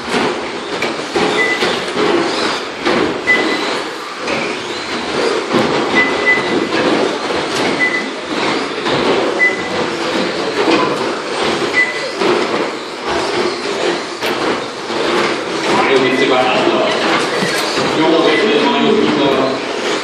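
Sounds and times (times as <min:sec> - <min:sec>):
rc trucks clattering: 0:00.0 - 0:20.0.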